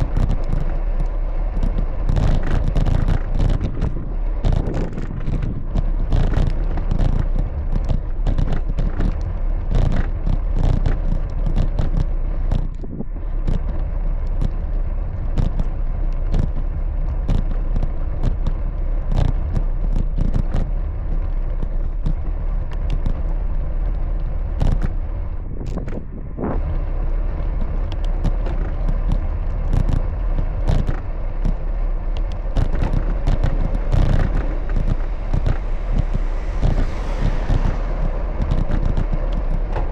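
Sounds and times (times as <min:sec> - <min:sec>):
bicycle knocks and rattles: 0:00.0 - 0:26.0, 0:26.6 - 0:36.6
bicycle riding rumble: 0:00.0 - 0:39.9
wind buffeting microphone: 0:00.0 - 0:39.9.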